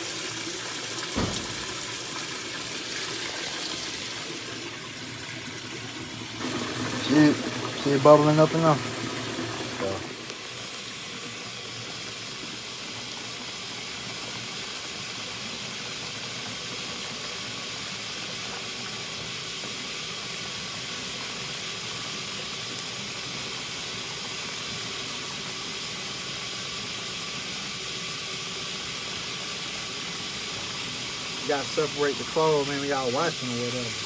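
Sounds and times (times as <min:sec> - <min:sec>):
water running into washing machine: 0:00.0 - 0:34.0.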